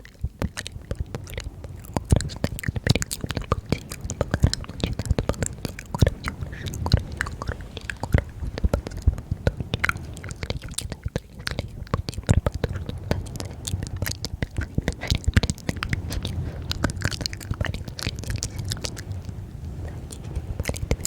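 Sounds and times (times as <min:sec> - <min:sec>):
wet mouth clicks and smacks: 0:00.0 - 0:21.0.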